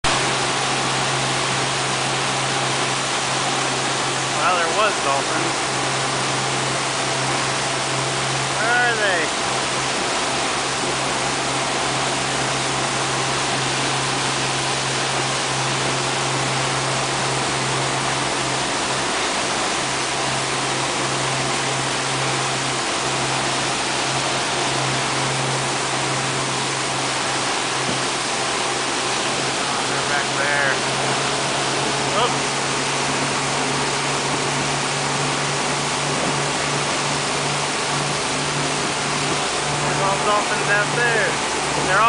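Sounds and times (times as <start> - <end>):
boat engine droning: 0.0 - 42.0
wake water churning: 0.0 - 42.0.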